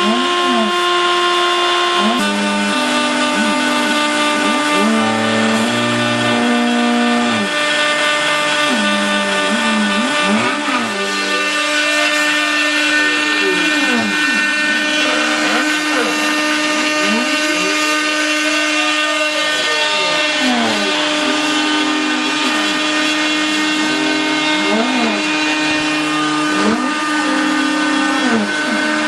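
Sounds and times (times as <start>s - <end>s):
router spindle running: 0.0s - 29.0s
stepper motors whining: 0.0s - 29.0s.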